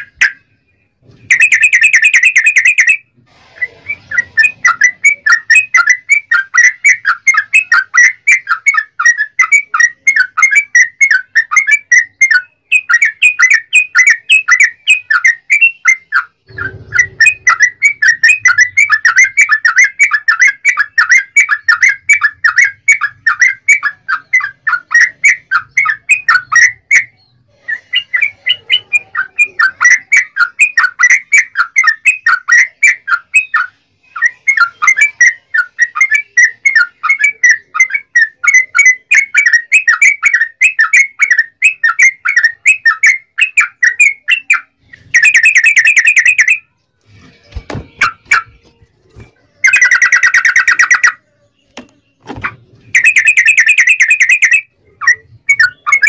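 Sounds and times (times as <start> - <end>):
bird singing rolling chirps: 0.0 - 56.0
bird trill: 0.0 - 56.0.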